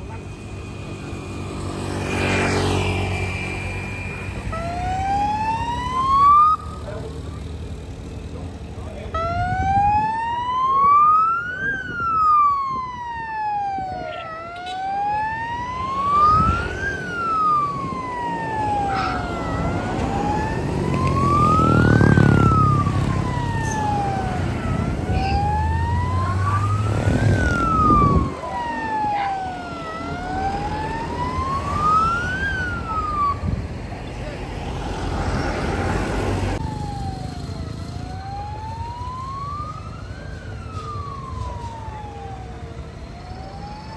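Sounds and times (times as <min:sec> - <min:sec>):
vehicles passing: 0:00.0 - 0:43.9
siren wailing: 0:00.3 - 0:07.0, 0:09.1 - 0:33.6, 0:34.6 - 0:43.9.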